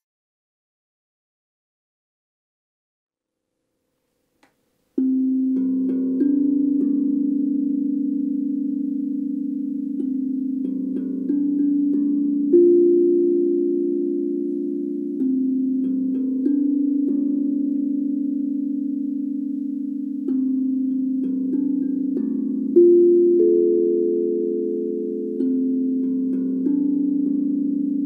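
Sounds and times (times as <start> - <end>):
steel tongue drum notes ringing: 5.0 - 28.0.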